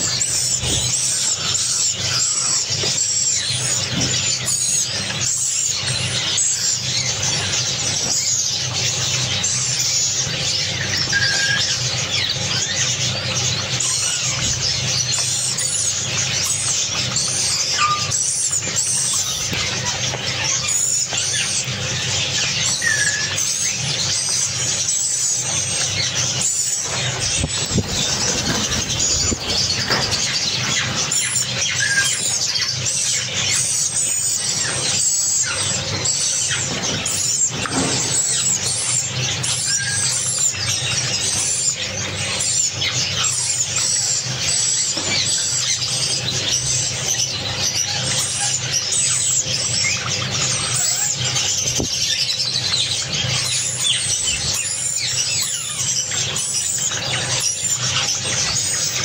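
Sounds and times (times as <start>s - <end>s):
flock of sparrows chirping: 0.0s - 59.0s.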